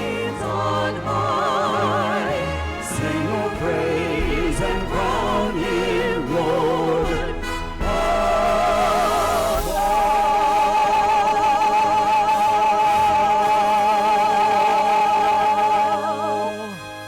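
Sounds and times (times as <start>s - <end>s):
choir singing a hymn chord: 0.0s - 16.8s.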